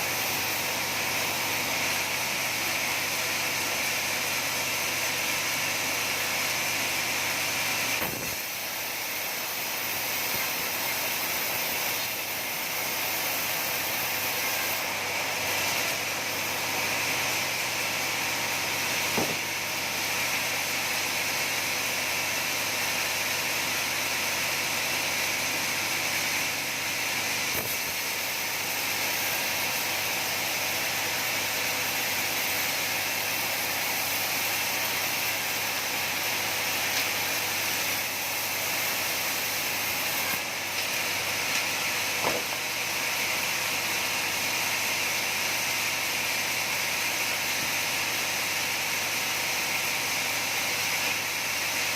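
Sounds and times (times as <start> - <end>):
sawmill saw whirring: 0.0 - 51.9.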